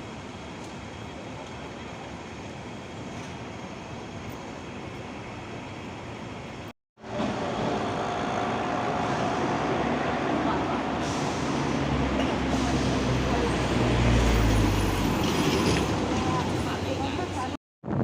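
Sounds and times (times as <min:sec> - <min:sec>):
tram rumbling: 0:00.0 - 0:17.6.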